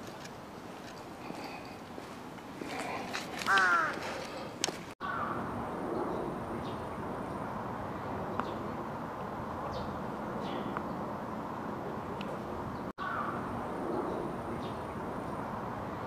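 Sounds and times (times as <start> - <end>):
park background noise: 0.0 - 16.0.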